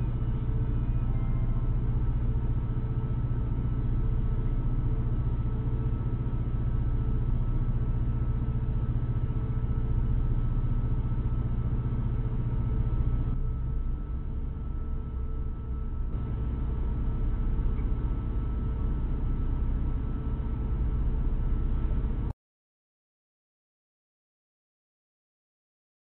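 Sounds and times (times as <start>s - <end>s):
faint steady whine: 0.0s - 22.3s
truck engine drone: 0.0s - 22.3s.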